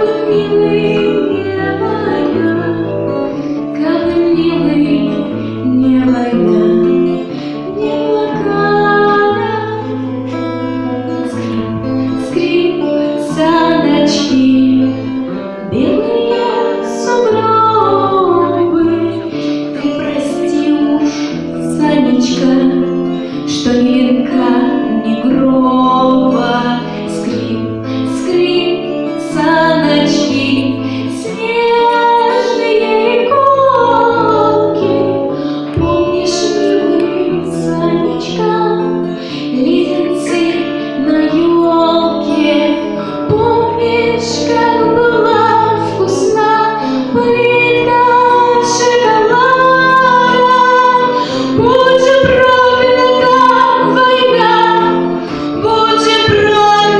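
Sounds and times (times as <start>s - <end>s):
instrumental accompaniment: 0.0s - 56.9s
woman singing: 0.0s - 56.9s.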